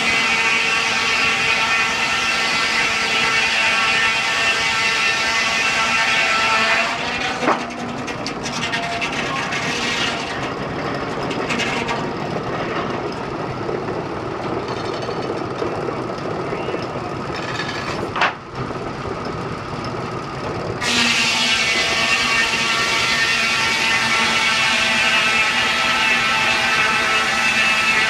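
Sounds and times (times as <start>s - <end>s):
sawmill carriage rumbling: 0.0s - 28.0s.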